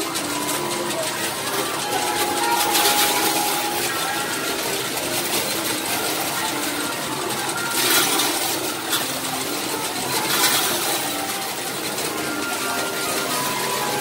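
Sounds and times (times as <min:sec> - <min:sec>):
arcade machine noise: 0:00.0 - 0:14.0
coins clattering: 0:00.0 - 0:14.0.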